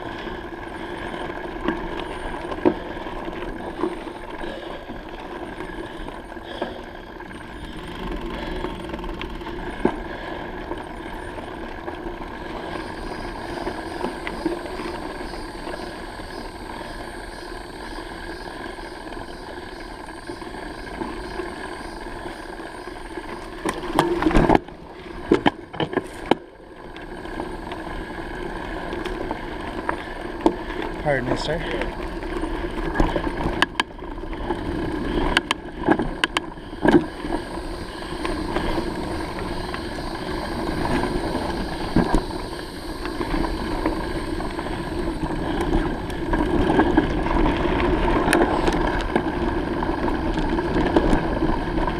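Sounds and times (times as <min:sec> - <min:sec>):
bicycle tyres and drivetrain hum: 0:00.0 - 0:51.9.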